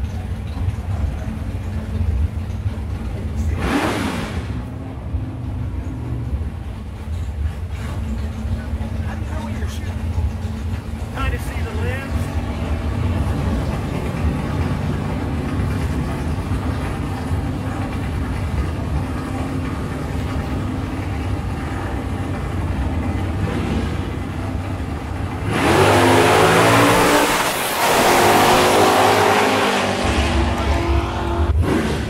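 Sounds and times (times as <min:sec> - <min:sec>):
race car engines idling: 0:00.0 - 0:32.0
race cars accelerating hard: 0:01.9 - 0:04.8, 0:07.6 - 0:32.0.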